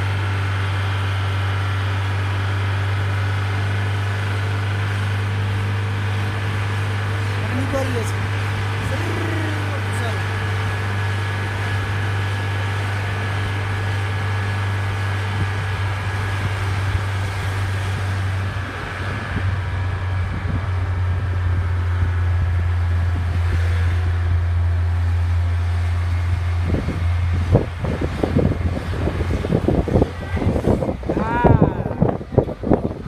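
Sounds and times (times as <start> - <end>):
vehicle engine humming: 0.0 - 33.0
wind buffeting microphone: 3.0 - 33.0.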